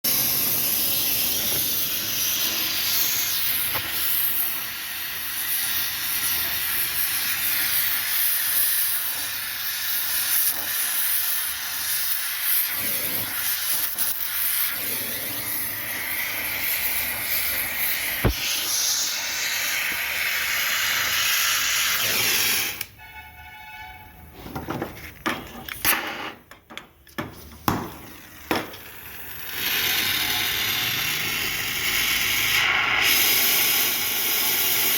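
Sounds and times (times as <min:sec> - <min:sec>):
welding torch hissing: 0:00.0 - 0:23.0, 0:27.4 - 0:34.9.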